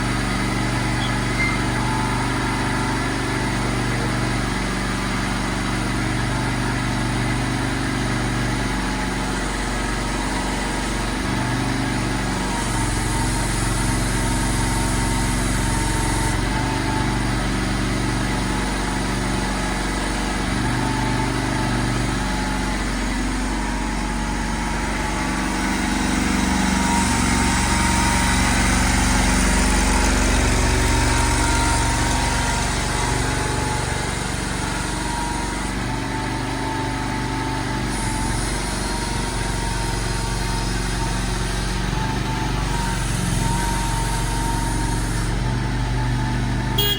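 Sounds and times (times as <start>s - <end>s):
mini excavator engine running: 0.0s - 46.9s.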